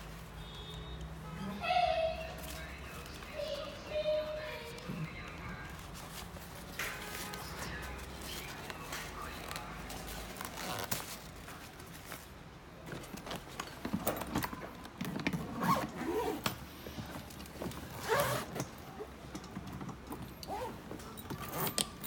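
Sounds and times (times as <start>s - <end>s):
rustling handling noise: 0.0s - 22.0s.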